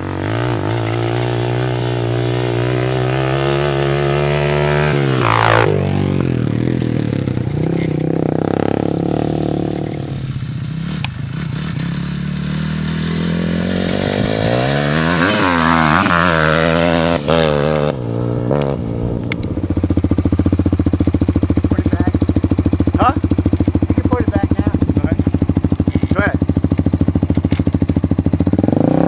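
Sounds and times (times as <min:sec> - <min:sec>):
atv engines revving: 0:00.0 - 0:29.0.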